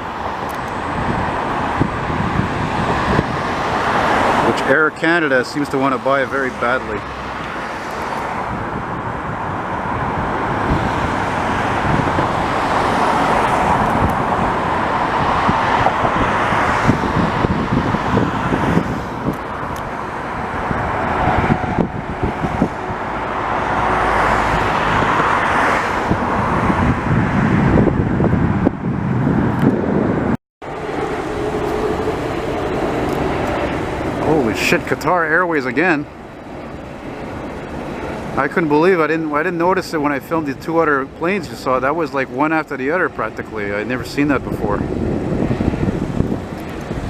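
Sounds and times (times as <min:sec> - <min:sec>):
jet airliner flying past: 0:00.0 - 0:47.0.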